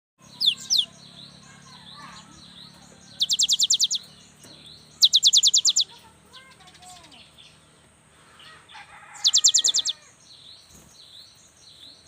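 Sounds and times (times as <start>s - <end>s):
faint chirping: 0.2s - 12.0s.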